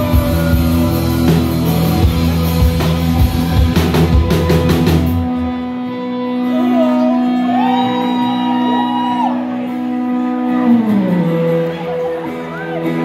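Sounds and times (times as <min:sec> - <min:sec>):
electric guitars sustained notes: 0:00.0 - 0:13.0.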